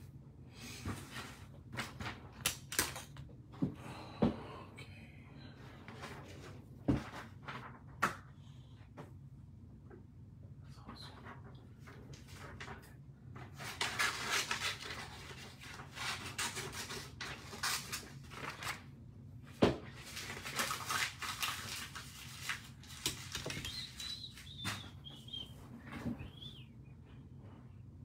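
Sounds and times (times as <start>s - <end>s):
rustling and handling noise: 0.6s - 3.8s, 5.6s - 9.4s, 10.8s - 28.0s.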